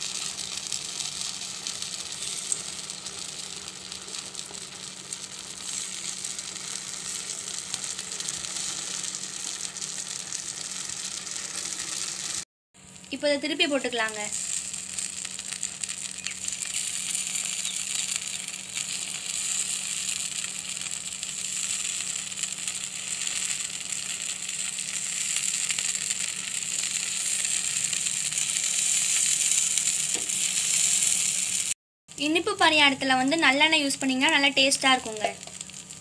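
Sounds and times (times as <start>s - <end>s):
batter sizzling in oil: 0.0s - 36.0s.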